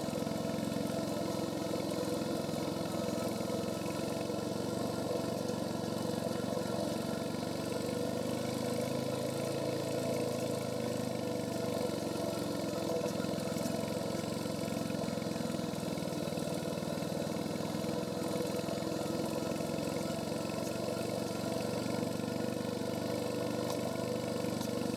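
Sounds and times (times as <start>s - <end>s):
single-cylinder motorcycle engine: 0.0s - 24.9s.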